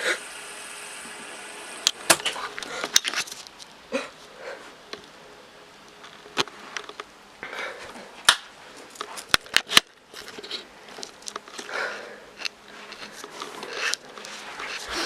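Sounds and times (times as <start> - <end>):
rustling and handling noises: 2.2 - 5.2, 5.9 - 15.0.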